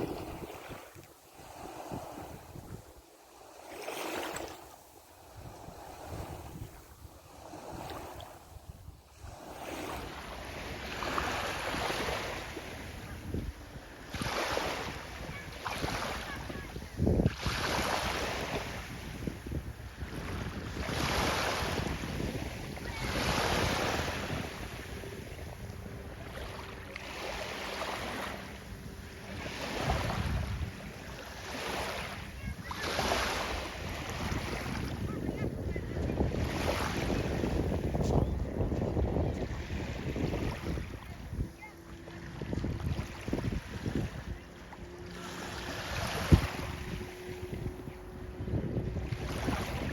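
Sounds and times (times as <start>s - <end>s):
wind buffeting microphone: 0.0s - 3.0s, 4.0s - 49.9s
sea water rushing and splashing: 0.0s - 49.9s.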